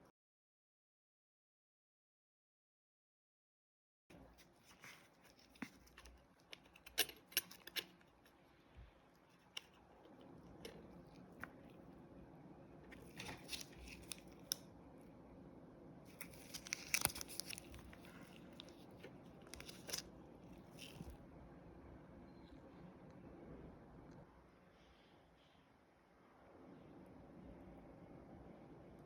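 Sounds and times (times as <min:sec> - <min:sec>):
faint steady hum: 0:04.1 - 0:29.0.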